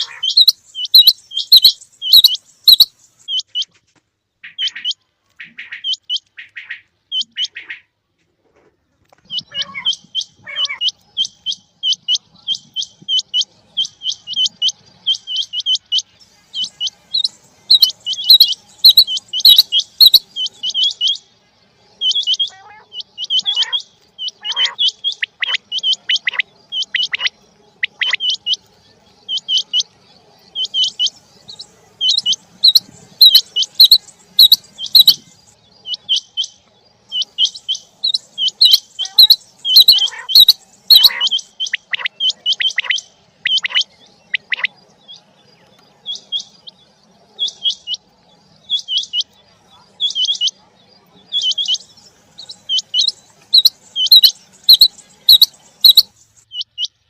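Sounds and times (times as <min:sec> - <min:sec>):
quail calling: 0:00.0 - 0:03.8, 0:04.4 - 0:07.9, 0:09.2 - 0:21.3, 0:22.0 - 0:28.7, 0:29.3 - 0:29.9, 0:30.5 - 0:45.2, 0:46.0 - 0:57.0.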